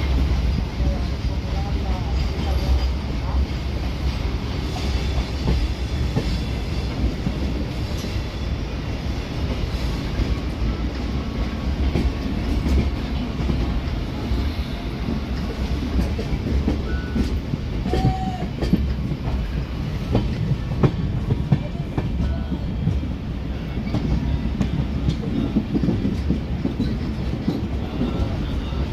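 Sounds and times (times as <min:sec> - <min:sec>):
train rumbling on rails: 0:00.0 - 0:28.9.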